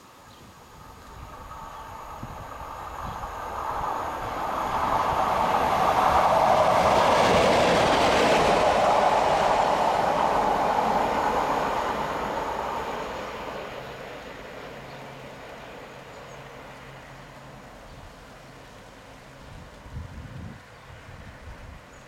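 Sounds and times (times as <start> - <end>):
diesel locomotive passing: 0.0 - 22.0.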